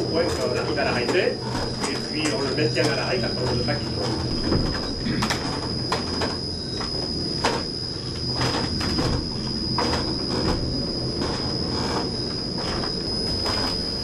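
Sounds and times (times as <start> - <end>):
high-pitched whine: 0.0 - 14.0
mill machinery rumbling: 0.0 - 14.0.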